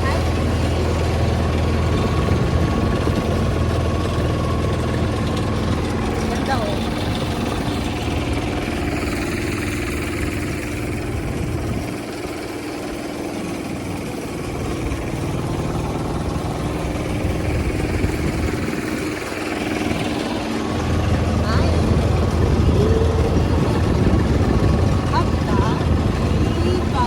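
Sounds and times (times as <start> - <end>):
hand tractor engine running: 0.0 - 27.0.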